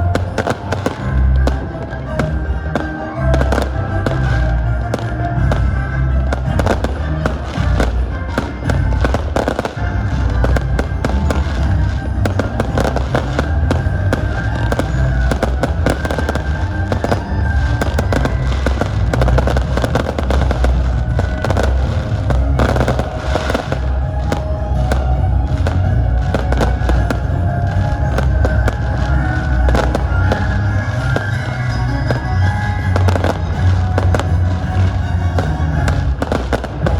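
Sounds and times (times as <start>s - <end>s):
fireworks bangs and crackling: 0.0s - 36.9s
loud music with heavy bass: 0.0s - 36.9s.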